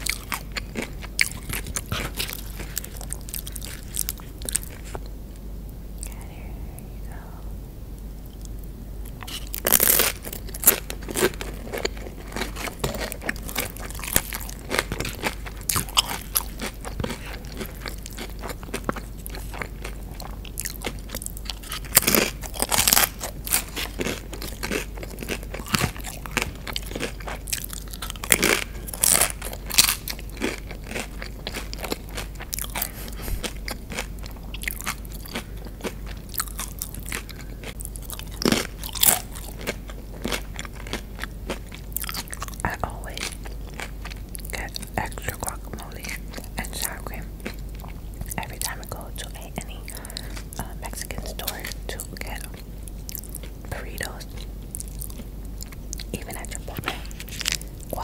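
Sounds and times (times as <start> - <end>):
chewing and crunching chips: 0.0 - 5.2, 8.3 - 58.0.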